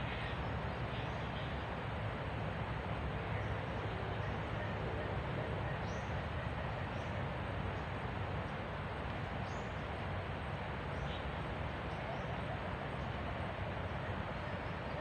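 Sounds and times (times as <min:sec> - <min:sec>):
forest background hiss: 0:00.0 - 0:15.0.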